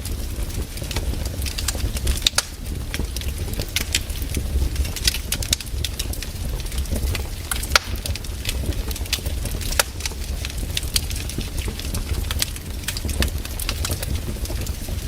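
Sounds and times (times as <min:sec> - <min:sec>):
campfire crackling and popping: 0:00.0 - 0:15.0
low rumble of fire: 0:00.0 - 0:15.0.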